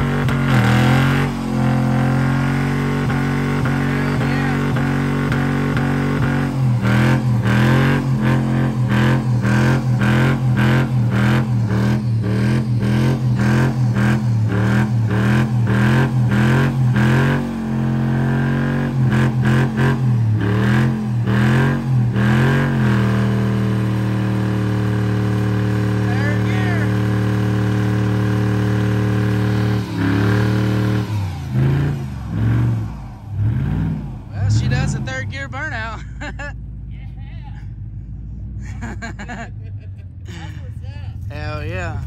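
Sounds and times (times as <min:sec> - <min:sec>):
engine bouncing off rev limiter: 0:00.0 - 0:36.9
tire spinning: 0:00.0 - 0:37.0.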